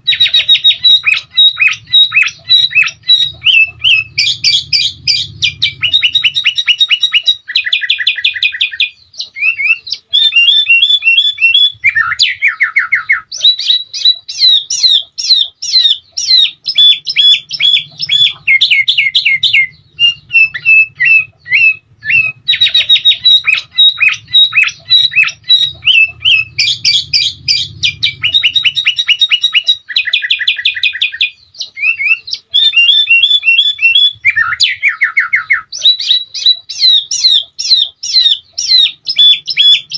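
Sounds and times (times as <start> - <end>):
bulbul singing in chattering trills: 0.0 - 39.9
faint low hum: 0.0 - 39.9.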